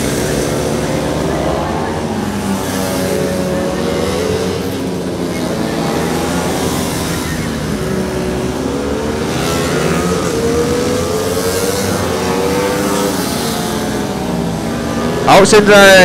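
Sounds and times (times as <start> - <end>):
motorbike engines accelerating: 0.0 - 16.0.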